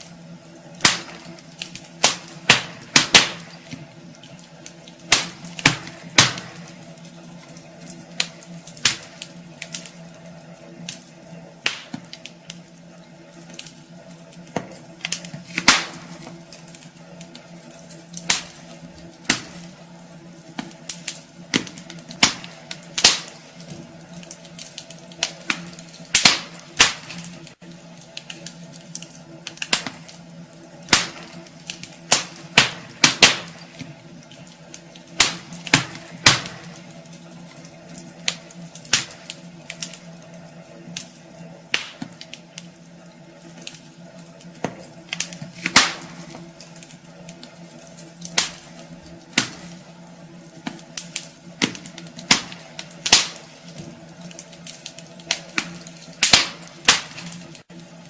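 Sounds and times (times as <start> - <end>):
low steady hum: 0.0 - 58.0
wood fire crackling: 0.0 - 58.0.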